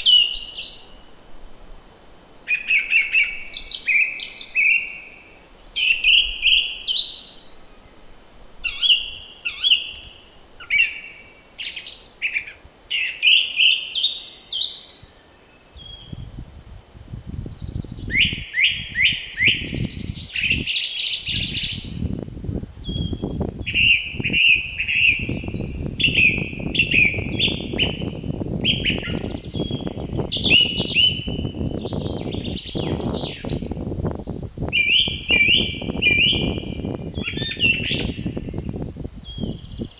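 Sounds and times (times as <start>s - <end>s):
gusty wind rumble: 0.0s - 11.6s, 15.7s - 20.7s, 21.3s - 39.9s
songbirds singing: 0.0s - 39.9s.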